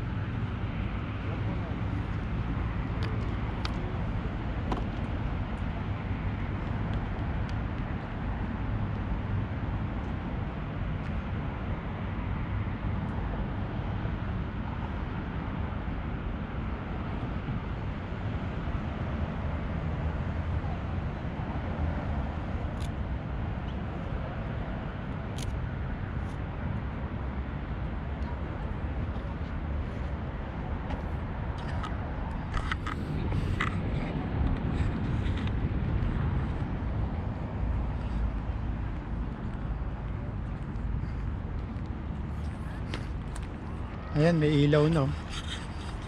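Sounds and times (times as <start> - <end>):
wind rushing on microphone: 0.0 - 46.0.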